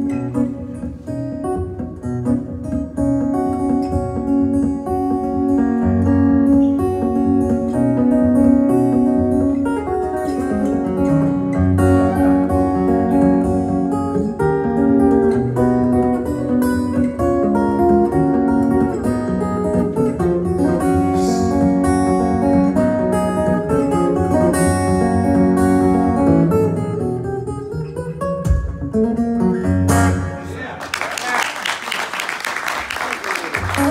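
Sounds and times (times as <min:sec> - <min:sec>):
acoustic guitar fingerstyle: 0:00.0 - 0:30.8, 0:33.6 - 0:33.9.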